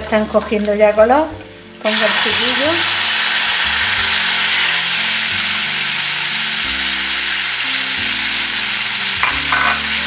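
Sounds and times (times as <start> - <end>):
background music low notes: 0.0 - 10.0
oil sizzling in a frying pan: 0.0 - 10.0.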